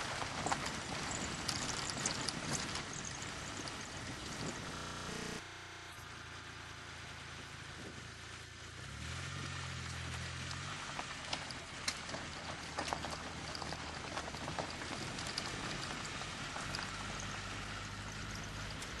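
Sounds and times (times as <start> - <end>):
gravel striking vehicle: 0.0 - 5.4, 6.0 - 19.0
tyres on loose gravel: 0.0 - 5.4, 7.3 - 19.0
low engine hum: 0.0 - 19.0.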